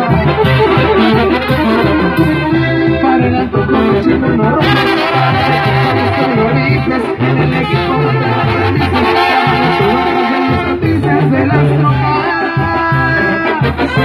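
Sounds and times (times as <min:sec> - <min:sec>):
brass band horns: 0:00.0 - 0:14.0
men singing into microphones: 0:00.0 - 0:14.0
pulsing low bass line: 0:00.0 - 0:14.0.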